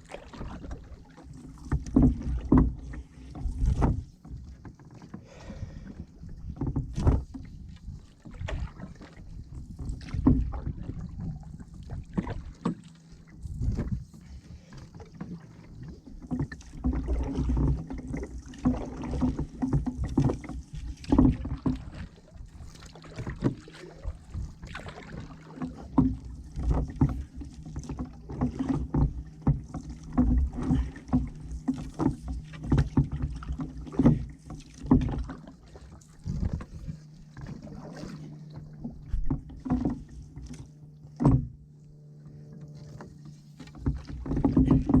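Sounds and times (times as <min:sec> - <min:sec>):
paddle knocking on canoe: 0:00.0 - 0:45.0
paddle splashing in water: 0:00.0 - 0:45.0.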